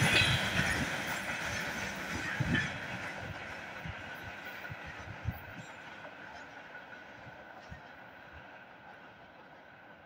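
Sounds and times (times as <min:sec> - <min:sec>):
wheels clacking over rail joints: 0:00.0 - 0:08.7
freight train rumble: 0:00.0 - 0:10.0.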